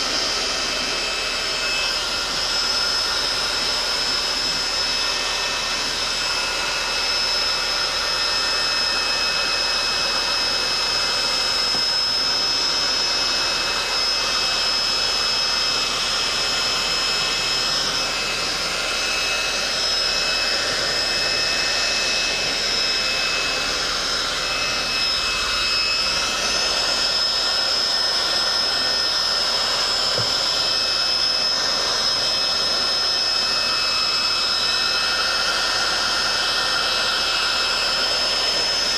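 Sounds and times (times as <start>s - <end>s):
heat gun blowing air: 0.0s - 38.9s
high motor whine: 0.0s - 38.9s.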